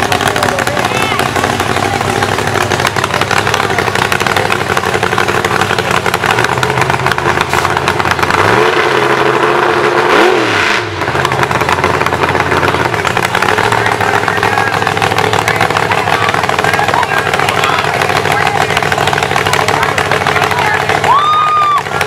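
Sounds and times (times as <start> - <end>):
truck engine running and revving: 0.0 - 22.0.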